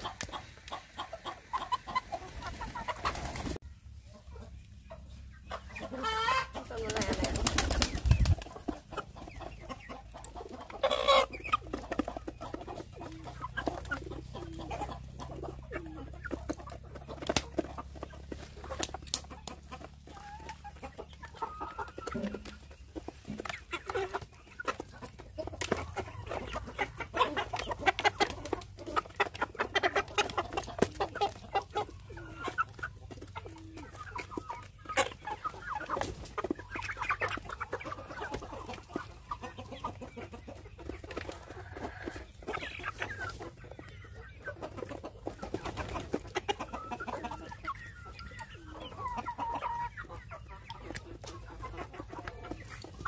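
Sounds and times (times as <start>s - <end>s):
hens clucking: 0.0s - 53.0s.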